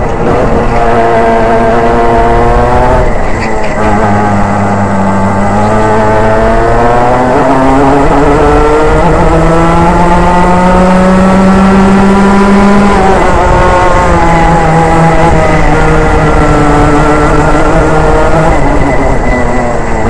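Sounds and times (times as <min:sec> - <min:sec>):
kart engine accelerating: 0:00.0 - 0:20.0.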